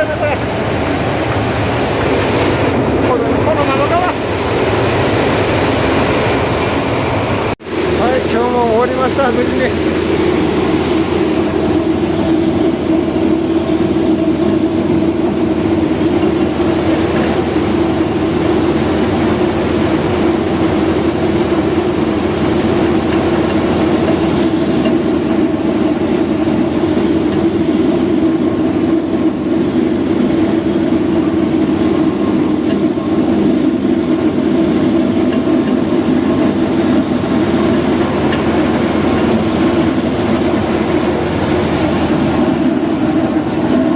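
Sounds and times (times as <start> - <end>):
rice huller machine hum: 0.0 - 43.9.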